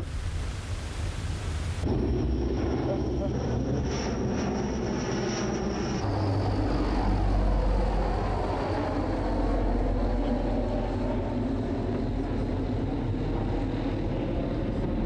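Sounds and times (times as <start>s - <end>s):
turboprop aircraft engine drone: 0.0s - 15.0s.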